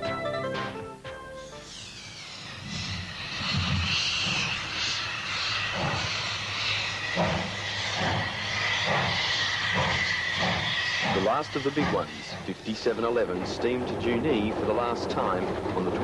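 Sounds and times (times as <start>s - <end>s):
steam locomotive exhaust beats: 0.0s - 16.0s
steam hissing: 1.3s - 16.0s.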